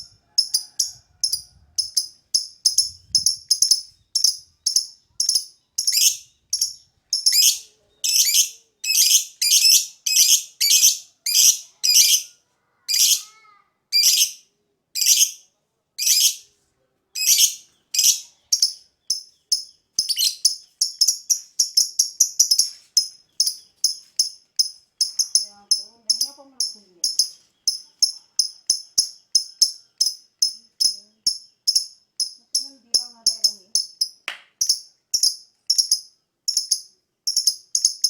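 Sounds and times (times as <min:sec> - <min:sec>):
lovebird chirping: 0:00.0 - 0:12.3, 0:14.0 - 0:14.4, 0:15.0 - 0:15.4, 0:17.2 - 0:38.0.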